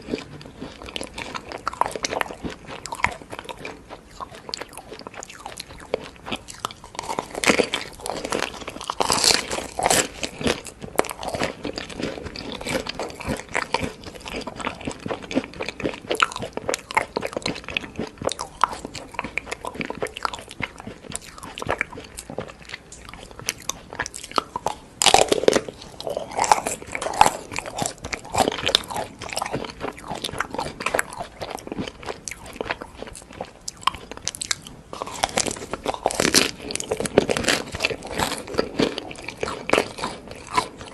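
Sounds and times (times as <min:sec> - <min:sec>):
crunchy chewing: 0:00.0 - 0:40.9.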